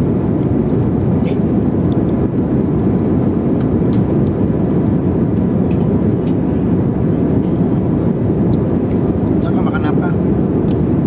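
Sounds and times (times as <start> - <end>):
jet engines droning: 0.0 - 11.0
rushing air: 0.0 - 11.0.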